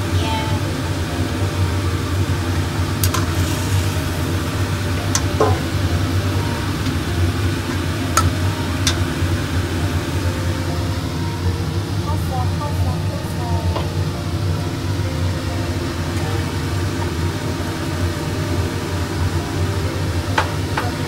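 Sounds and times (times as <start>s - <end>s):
broth sizzling in a wok: 0.0s - 21.0s
low hum: 0.0s - 21.0s.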